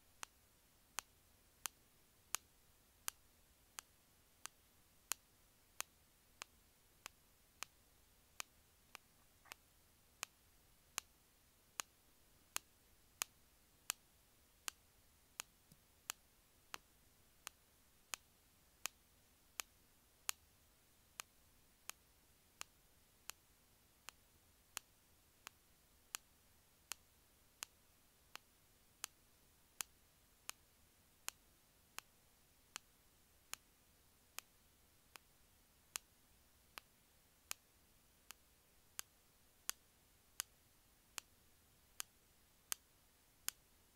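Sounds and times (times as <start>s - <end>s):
faint room hiss: 0.0s - 43.9s.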